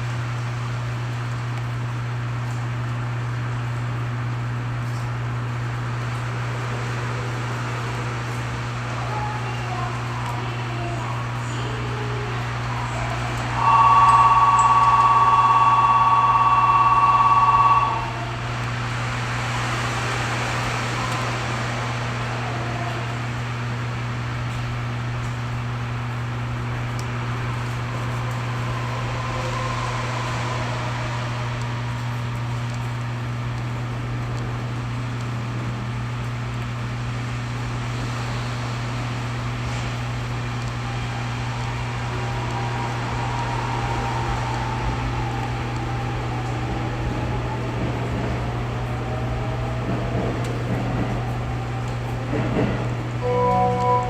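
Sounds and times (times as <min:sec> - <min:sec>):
faint motor whine: 0:00.0 - 0:50.6
train wheels on rails: 0:04.8 - 0:54.0.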